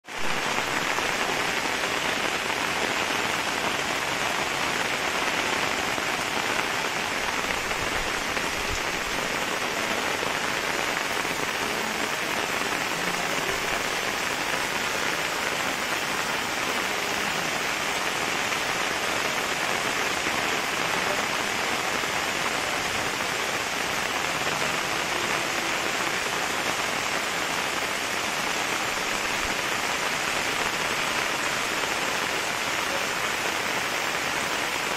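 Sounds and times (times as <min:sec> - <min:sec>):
rain falling on a flooded street: 0:00.0 - 0:34.9.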